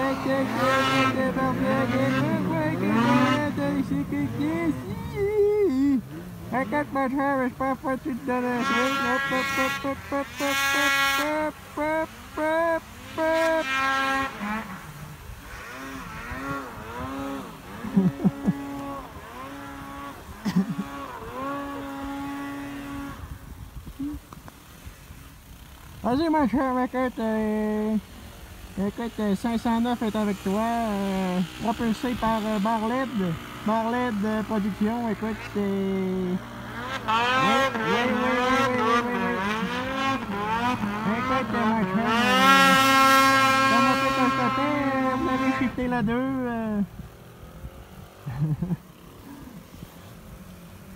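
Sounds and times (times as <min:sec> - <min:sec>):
snowmobile engine revving: 0:00.0 - 0:50.9.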